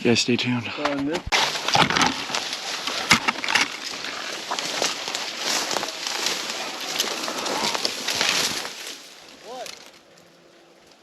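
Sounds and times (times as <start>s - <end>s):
twigs snapping: 1.3s - 10.3s
brush rustling: 1.3s - 11.0s.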